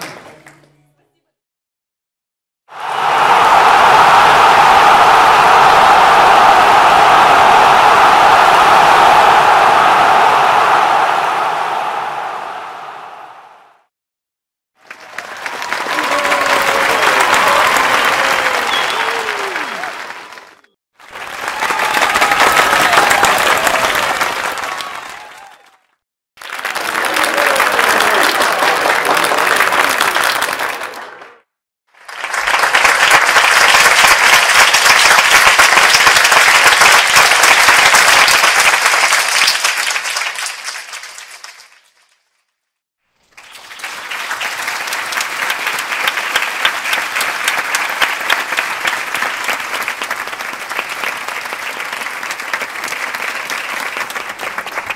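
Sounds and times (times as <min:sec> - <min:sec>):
crowd applause: 0:02.7 - 0:13.6, 0:14.8 - 0:42.2, 0:43.2 - 0:54.9.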